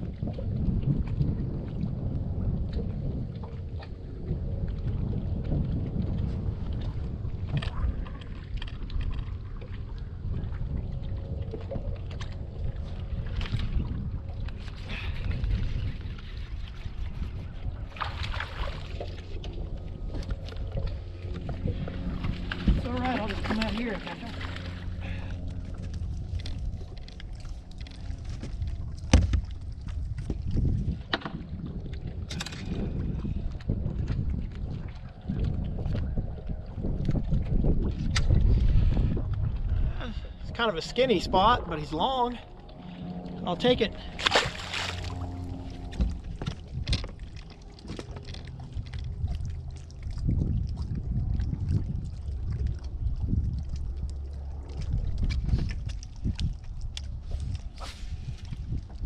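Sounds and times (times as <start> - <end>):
water splashing against boat hull: 0.0 - 59.0
wind buffeting microphone: 0.0 - 59.0.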